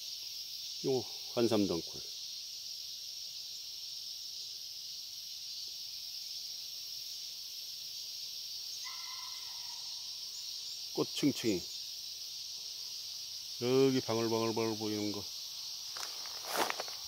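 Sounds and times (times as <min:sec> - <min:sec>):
insects chorus hissing: 0:00.0 - 0:17.0.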